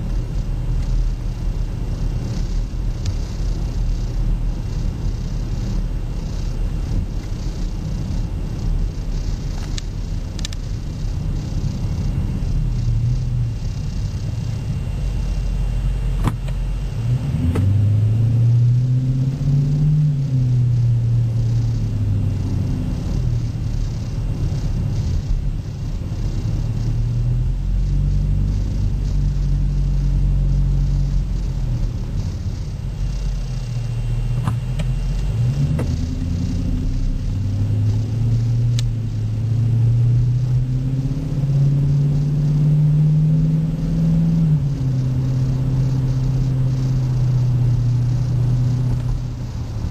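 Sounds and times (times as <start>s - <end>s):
deep car exhaust rumble: 0.0s - 49.9s.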